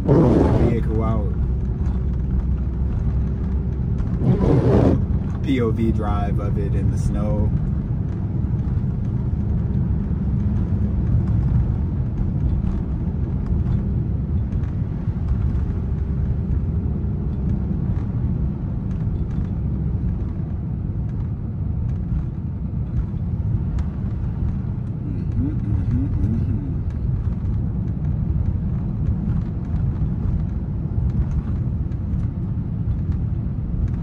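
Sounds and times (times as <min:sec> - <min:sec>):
tyre and road noise in car: 0:00.0 - 0:34.0.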